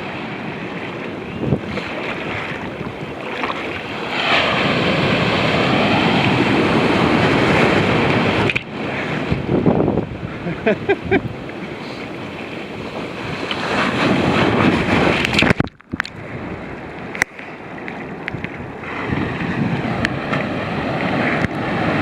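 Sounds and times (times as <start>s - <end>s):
sea waves surging: 0.0s - 22.0s
wind buffeting microphone: 1.1s - 22.0s.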